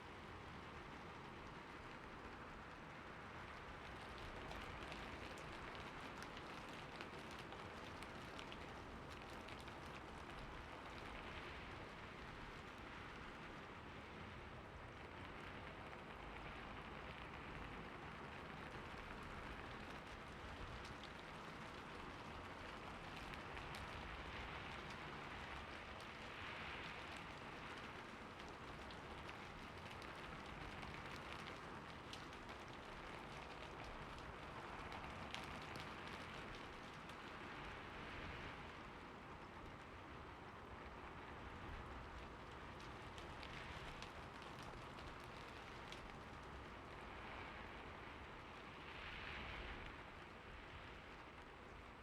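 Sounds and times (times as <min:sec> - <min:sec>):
rain pattering on foliage: 0:00.0 - 0:52.0.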